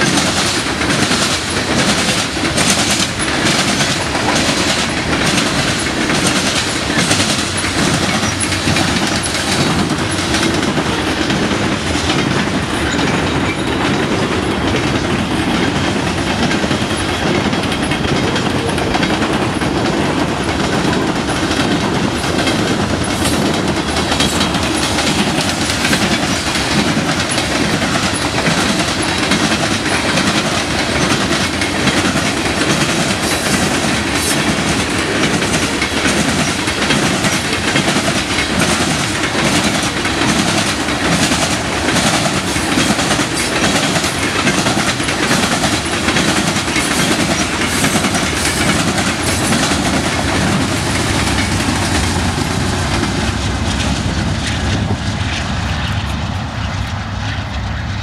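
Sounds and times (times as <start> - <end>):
wheels clicking over rails: 0.0 - 57.7
freight train rumbling past: 0.0 - 58.0
wind buffeting microphone: 0.0 - 58.0.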